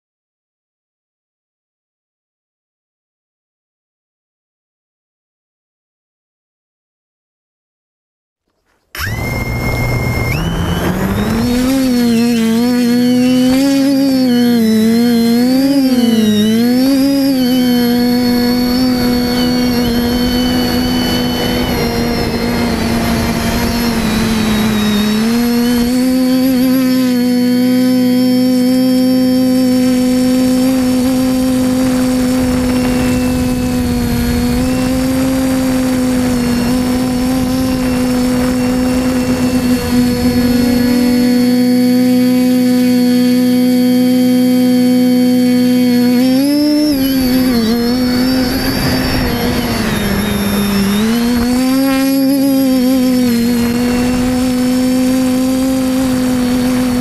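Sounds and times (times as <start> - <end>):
drone motors whining: 8.9 - 57.0.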